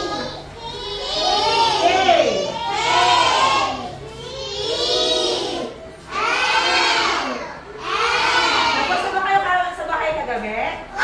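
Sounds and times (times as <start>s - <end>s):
children chanting in unison: 0.0s - 9.0s.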